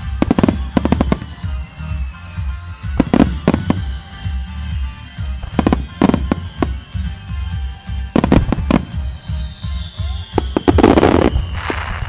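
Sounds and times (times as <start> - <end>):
music with low beat: 0.0 - 11.4
fireworks crackling: 0.0 - 12.0.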